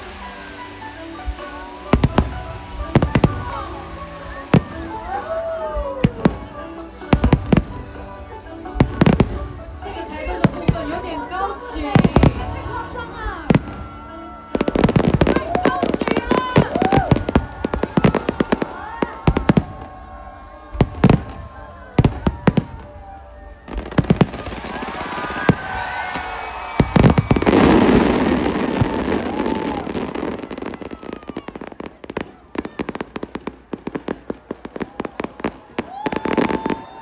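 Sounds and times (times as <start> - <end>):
fireworks bangs: 0.0 - 37.0
fireworks crackle: 0.0 - 37.0
whistling fireworks: 0.0 - 37.0.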